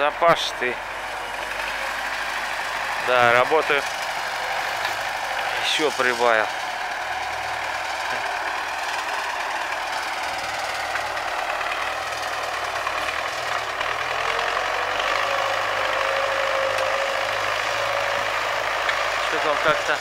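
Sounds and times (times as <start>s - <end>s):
tractor diesel engine clattering: 0.0s - 20.0s.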